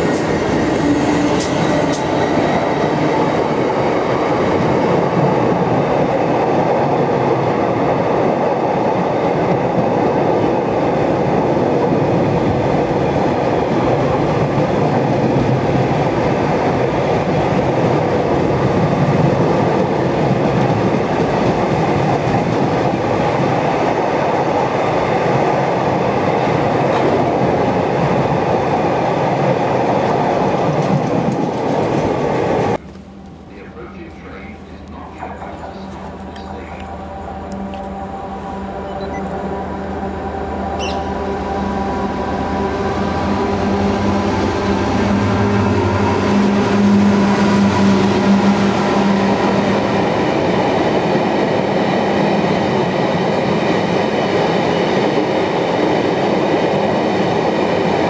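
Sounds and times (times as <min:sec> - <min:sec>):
train wheels on rail: 0:00.0 - 0:39.4, 0:40.0 - 0:58.0.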